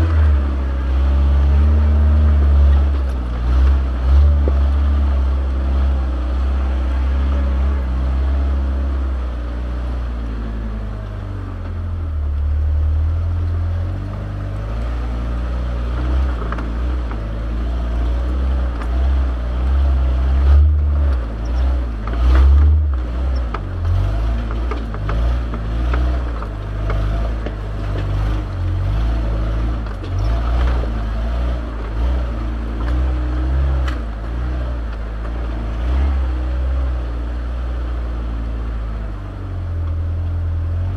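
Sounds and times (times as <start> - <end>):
vehicle engine droning: 0.0 - 40.9.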